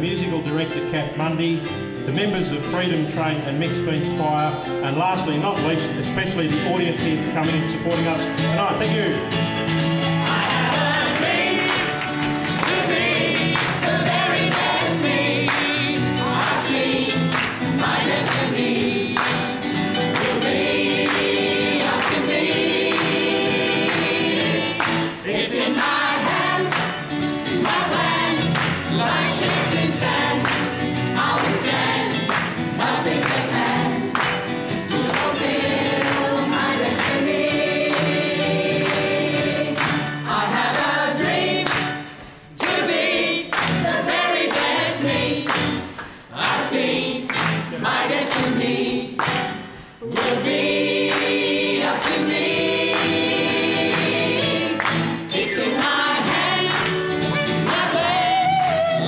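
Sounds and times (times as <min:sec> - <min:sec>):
choir singing upbeat song: 0:06.8 - 0:59.0
rhythmic handclaps: 0:07.4 - 0:59.0.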